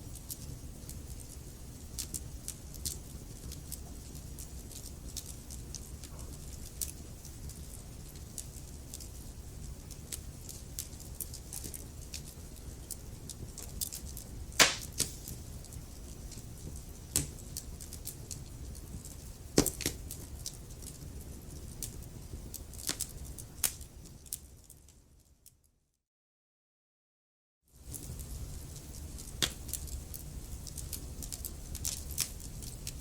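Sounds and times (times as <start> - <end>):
wood fire crackling: 0.1 - 25.0, 27.8 - 33.0.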